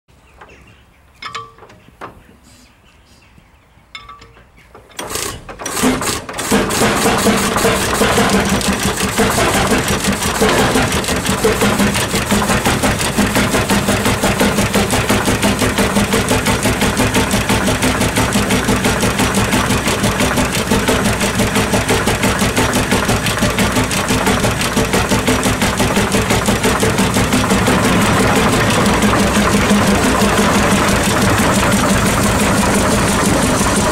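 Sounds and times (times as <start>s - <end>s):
tractor engine starting and idling: 4.7s - 33.9s.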